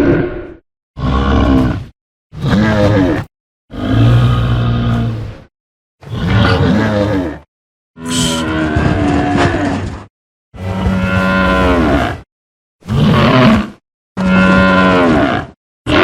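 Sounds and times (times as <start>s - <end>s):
deep creature calls: 0.0s - 9.9s, 10.6s - 16.0s.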